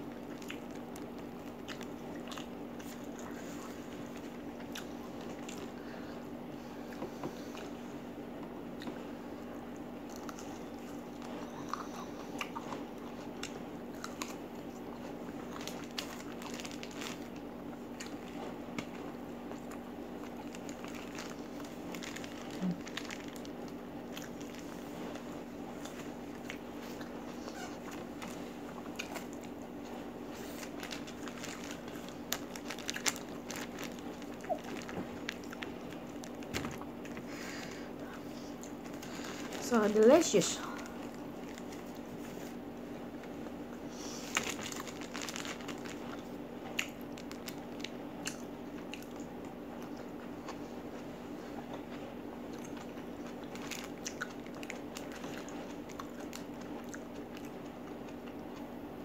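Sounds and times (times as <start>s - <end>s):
steady low hum: 0.0s - 59.0s
crunchy chili bites and chewing: 0.1s - 5.8s, 10.0s - 37.6s, 43.1s - 58.8s.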